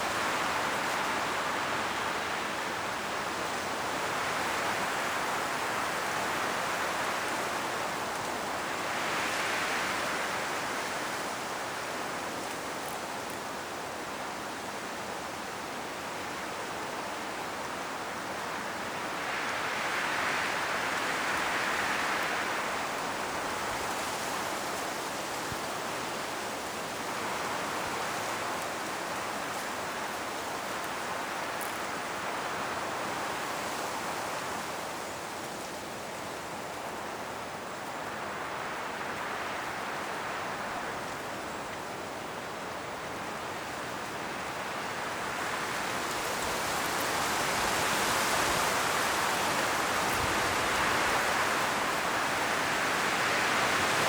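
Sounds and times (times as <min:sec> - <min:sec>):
wind rustling tree leaves: 0:00.0 - 0:54.0.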